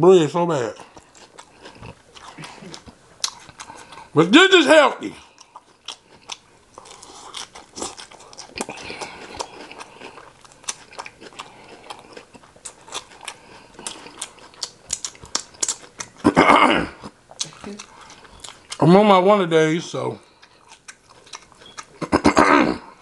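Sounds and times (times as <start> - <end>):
crisp chewing crunches: 0.7 - 4.2, 5.0 - 18.9, 20.2 - 22.3.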